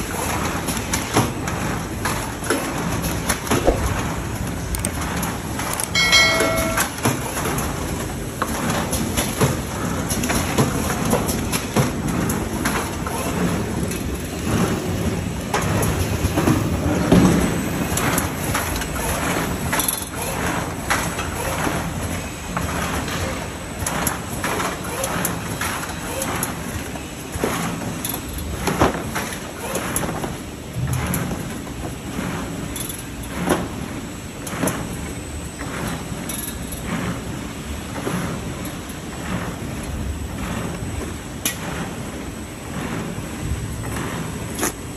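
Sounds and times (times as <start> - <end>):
machine clattering and rumbling: 0.0 - 44.9.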